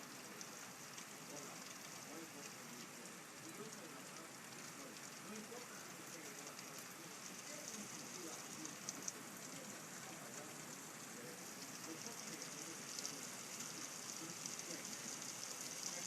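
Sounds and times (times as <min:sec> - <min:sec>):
sharp water drips: 0:00.0 - 0:16.0
steady rain falling: 0:00.0 - 0:16.0.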